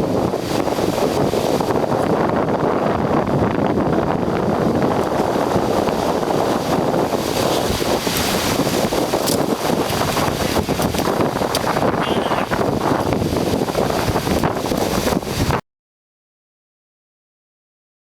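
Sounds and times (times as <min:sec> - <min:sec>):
surf on rocky shore: 0:00.0 - 0:15.6
wind buffeting microphone: 0:00.0 - 0:15.6.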